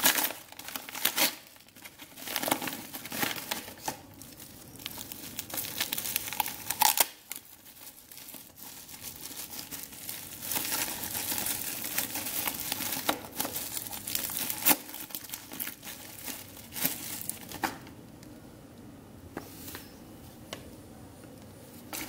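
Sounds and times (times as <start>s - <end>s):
plastic wrapping crinkling: 0.0s - 17.9s.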